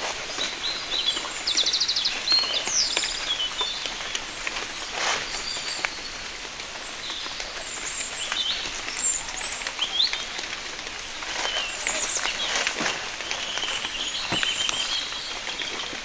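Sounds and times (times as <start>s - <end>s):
rain falling with drips: 0.0s - 16.0s
small birds chirping: 0.0s - 16.0s.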